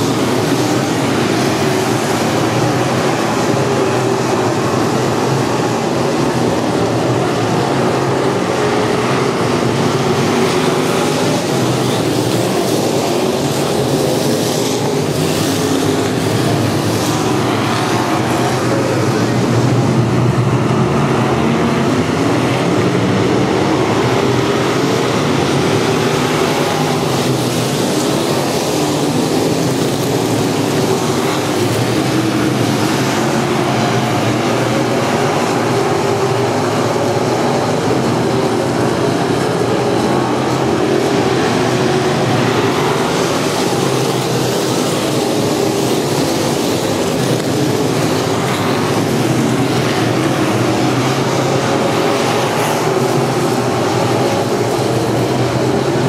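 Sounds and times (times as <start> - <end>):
race car engines roaring: 0.0 - 56.0.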